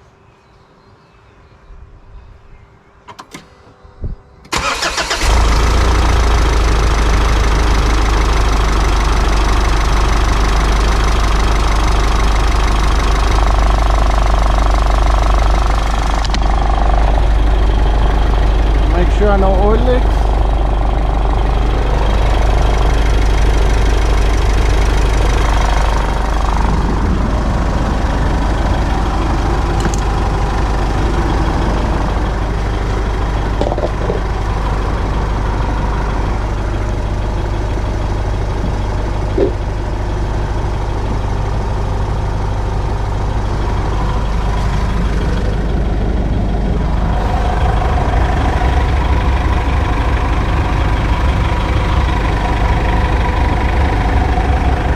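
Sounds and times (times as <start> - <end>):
diesel engine idling: 4.5 - 54.9.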